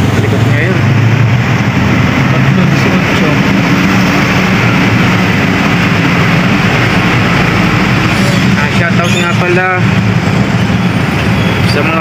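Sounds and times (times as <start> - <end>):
passing motorcycles and vans: 0.0 - 12.0
vehicle engine running: 0.0 - 12.0.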